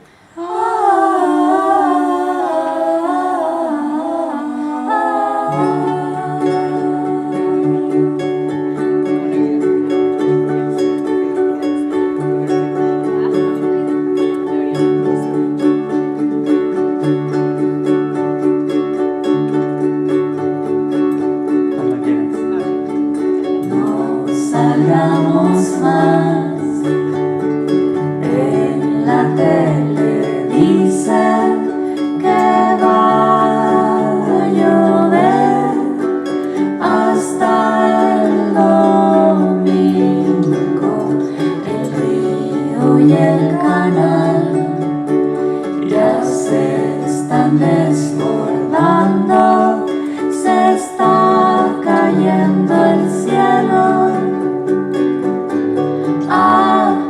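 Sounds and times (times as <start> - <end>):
person singing wordless melody: 0.0 - 57.0
strummed string instrument: 0.0 - 57.0.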